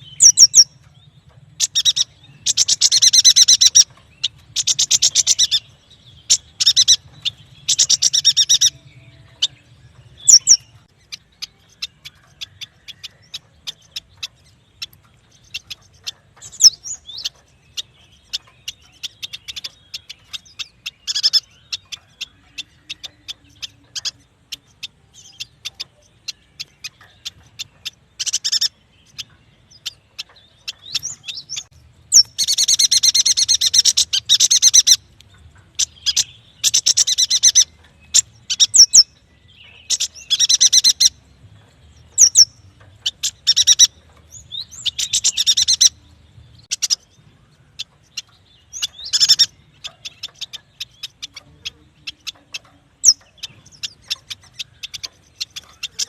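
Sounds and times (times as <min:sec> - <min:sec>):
bird chirping: 0:00.0 - 0:56.0
buzzy bird trills: 0:00.0 - 0:56.0.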